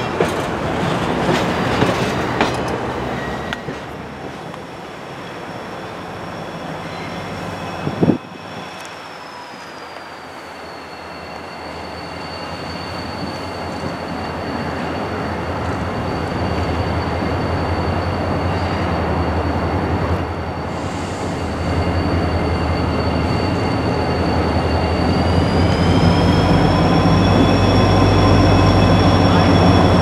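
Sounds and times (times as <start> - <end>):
diesel locomotive and train: 0.0 - 30.0.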